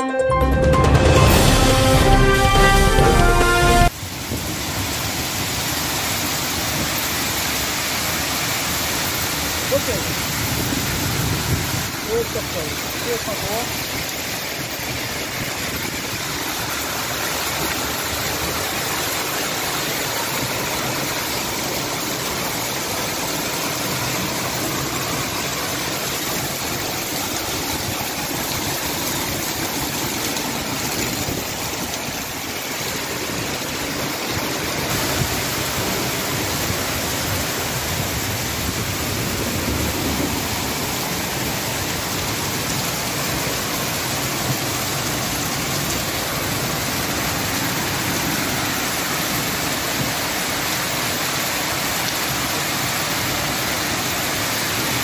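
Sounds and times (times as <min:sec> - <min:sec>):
hail and heavy rain: 0:00.9 - 0:55.0.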